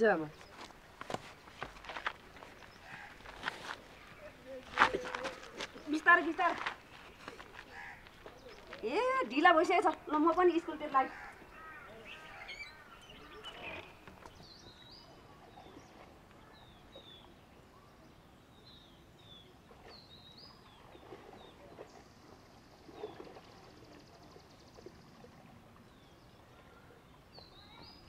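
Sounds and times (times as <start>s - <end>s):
small birds chirping: 0.0s - 25.3s, 25.9s - 28.0s.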